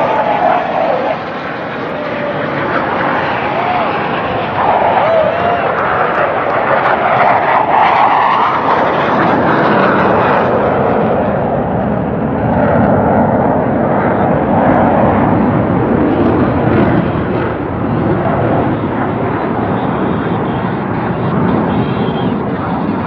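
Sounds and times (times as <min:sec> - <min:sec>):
jet engines roaring overhead: 0:00.0 - 0:23.0.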